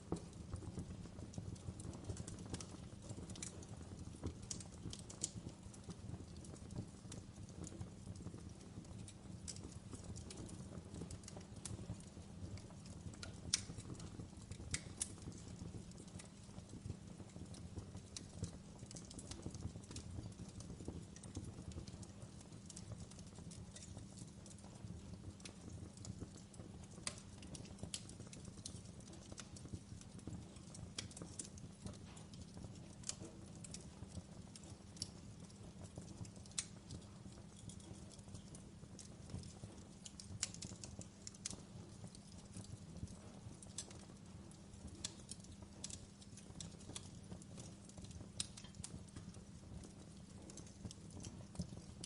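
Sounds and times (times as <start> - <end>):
fire crackling: 0.0 - 52.0.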